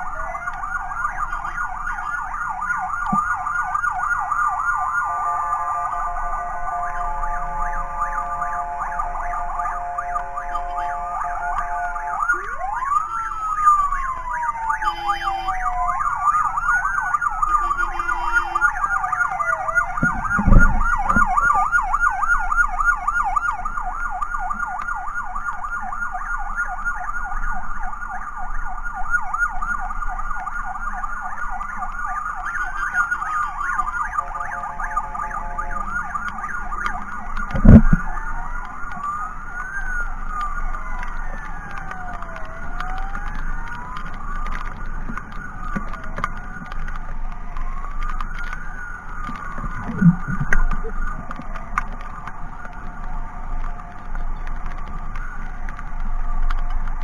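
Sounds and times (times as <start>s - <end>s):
ambulance sirens yelping and wailing: 0.0s - 57.0s.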